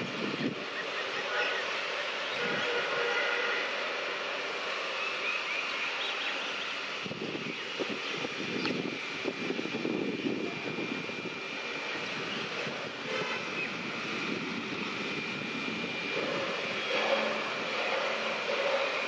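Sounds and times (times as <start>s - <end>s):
thin high whine: 0.0s - 19.0s
train rumble: 0.0s - 19.0s.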